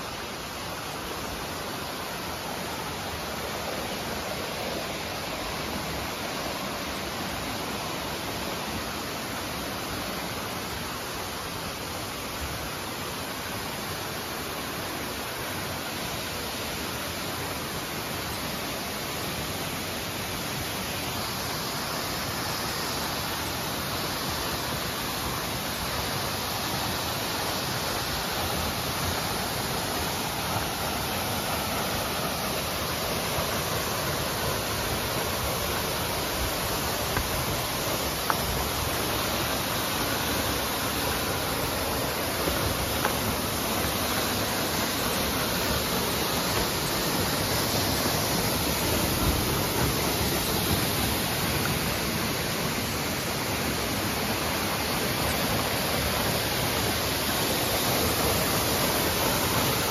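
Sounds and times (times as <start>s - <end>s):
rocky stream rushing: 0.0s - 59.9s
waterfall rushing: 0.0s - 59.9s.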